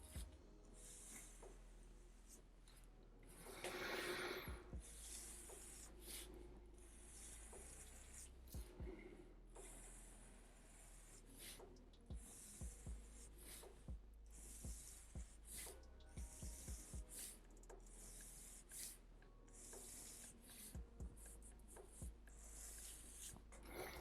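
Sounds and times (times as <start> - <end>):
pencil scratching on paper: 0.0 - 2.4, 3.4 - 24.0.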